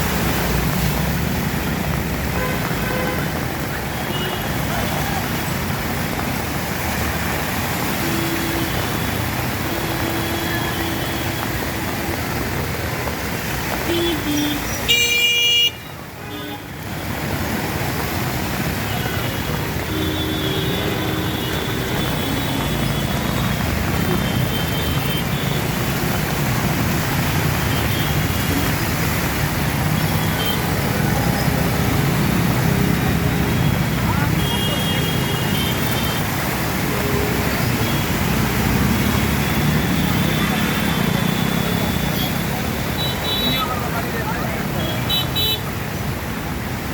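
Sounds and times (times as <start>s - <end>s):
street traffic: 0.0s - 46.9s.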